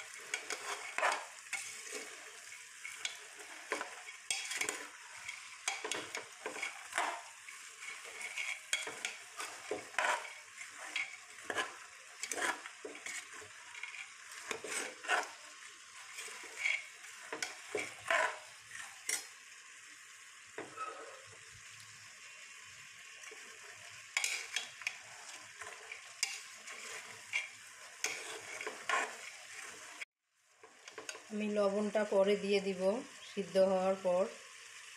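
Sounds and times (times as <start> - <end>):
utensil stirring and scraping pan: 0.0 - 19.4, 20.5 - 21.6, 23.0 - 31.3
chickpeas sizzling in oil: 0.0 - 34.9.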